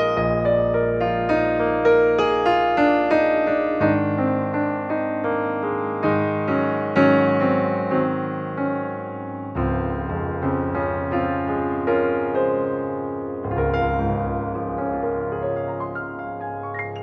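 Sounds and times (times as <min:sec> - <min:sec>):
calm slow piano music: 0:00.0 - 0:17.0.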